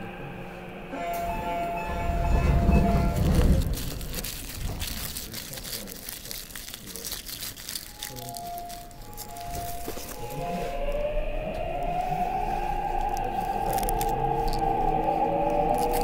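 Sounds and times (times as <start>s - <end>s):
subway train running noise: 0.0s - 6.0s, 7.9s - 16.0s
loud low rumble: 0.0s - 7.4s, 8.9s - 16.0s
plastic bag crinkling and rustling: 2.3s - 16.0s.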